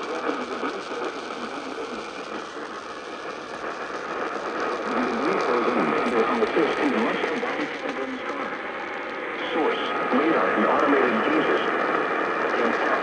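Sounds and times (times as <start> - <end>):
faint garbled speech: 0.0 - 13.0
radio static hiss: 0.0 - 13.0.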